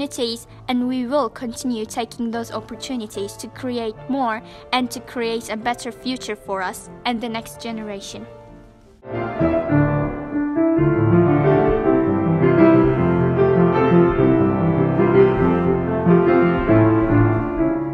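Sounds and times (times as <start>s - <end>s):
piano background music: 0.0s - 17.9s.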